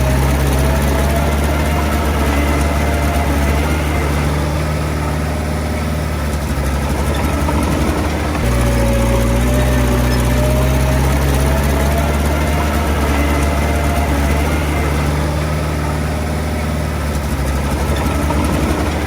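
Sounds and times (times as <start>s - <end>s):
bulldozer diesel engine drone: 0.0s - 19.0s.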